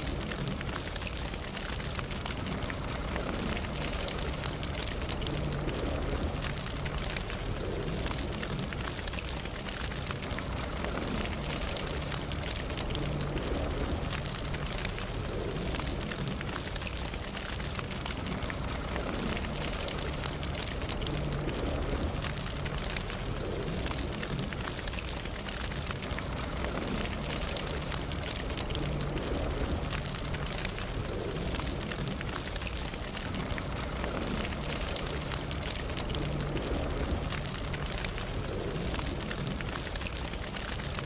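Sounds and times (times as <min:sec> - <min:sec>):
campfire flames rushing: 0:00.0 - 0:41.0
wood crackling and popping: 0:00.0 - 0:41.0.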